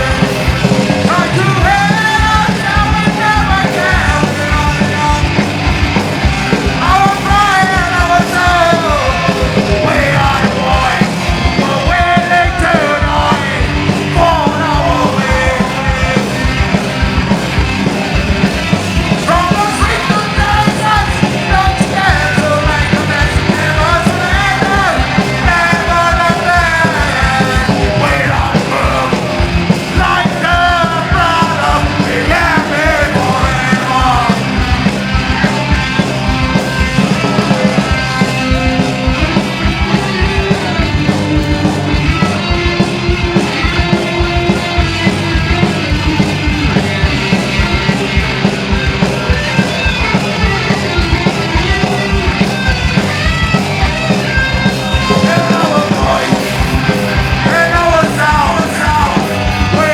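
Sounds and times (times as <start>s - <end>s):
punk rock band playing loudly: 0.0s - 59.9s.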